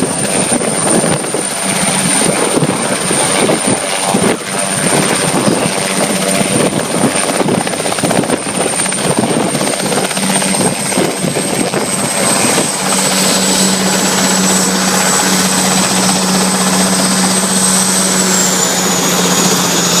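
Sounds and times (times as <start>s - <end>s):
helicopter running: 0.0s - 20.0s.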